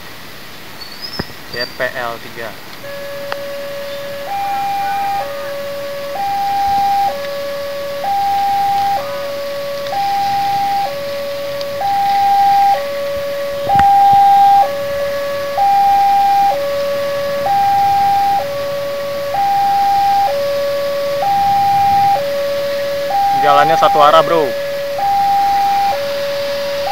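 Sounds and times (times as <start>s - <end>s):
level crossing two-tone alarm: 2.8s - 26.9s.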